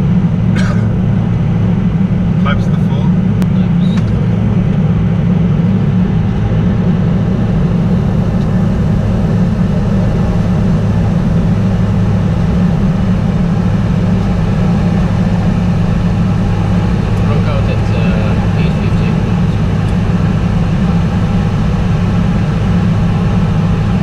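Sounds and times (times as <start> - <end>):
aircraft airflow and engine rush: 0.0 - 24.0.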